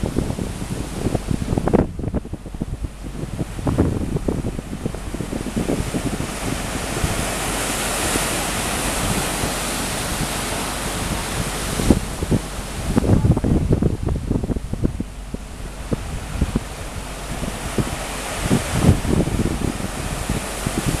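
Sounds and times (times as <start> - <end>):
wind buffeting microphone: 0.0 - 21.0
steady rushing hiss: 1.0 - 21.0.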